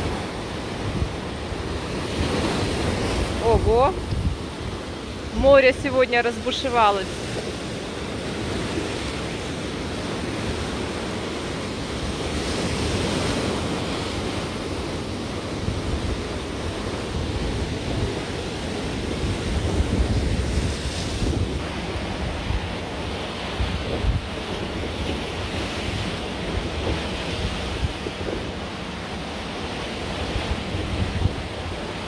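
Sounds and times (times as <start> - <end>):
wind gusting on microphone: 0.0 - 7.6, 11.9 - 28.8, 30.1 - 32.0
storm surf breaking on rocks: 0.0 - 32.0.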